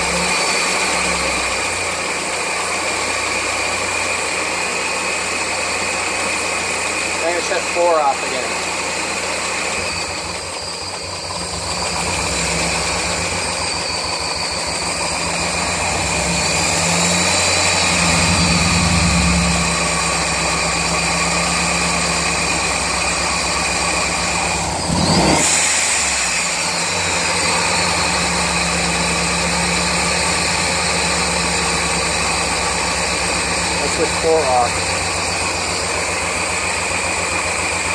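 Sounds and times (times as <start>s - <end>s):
car engine idling roughly: 0.0s - 37.9s
engine ticking: 5.3s - 37.9s.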